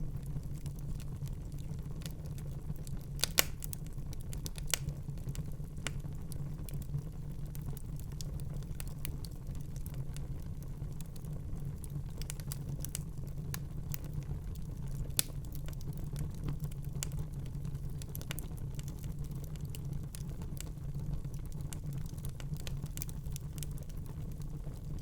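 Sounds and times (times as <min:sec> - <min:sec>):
fire crackling and popping: 0:00.0 - 0:25.0
wood fire burning: 0:00.0 - 0:25.0.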